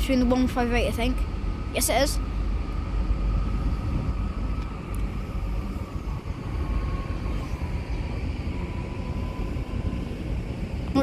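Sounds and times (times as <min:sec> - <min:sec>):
train low rumble: 0:00.0 - 0:11.0
faint falling whine: 0:02.2 - 0:11.0.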